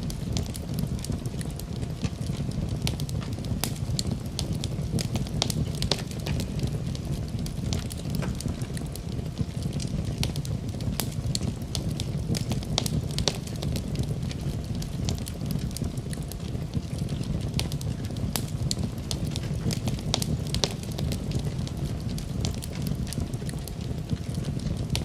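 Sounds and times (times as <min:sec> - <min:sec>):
wood campfire crackling: 0:00.0 - 0:25.0.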